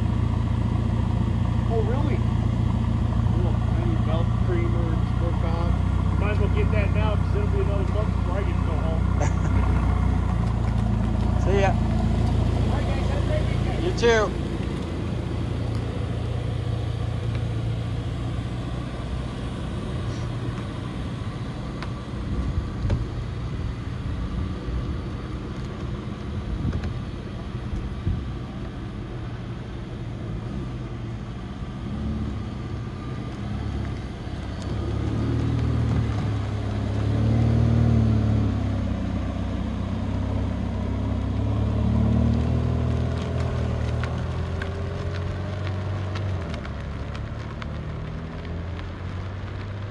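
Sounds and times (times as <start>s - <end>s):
car engine idling: 0.0s - 49.9s
car engine revving: 0.0s - 49.9s.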